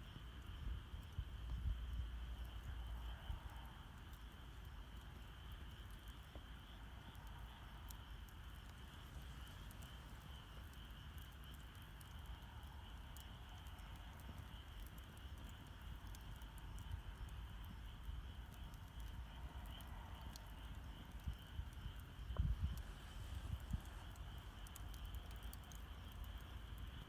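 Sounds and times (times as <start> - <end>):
campfire crackling: 0.0 - 27.0
sharp pops of fire: 4.1 - 27.0.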